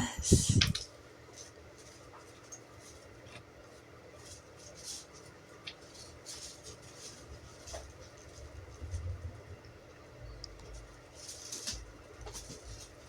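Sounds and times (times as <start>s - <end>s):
low steady hum: 0.0s - 13.0s
rustling and scratching handling noises: 0.0s - 13.0s.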